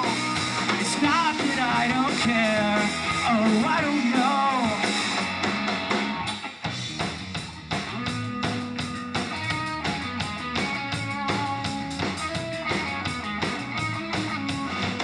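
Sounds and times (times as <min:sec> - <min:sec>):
drum kit beat: 0:00.0 - 0:15.0
electric bass: 0:00.0 - 0:15.0
electric guitar: 0:00.0 - 0:15.0.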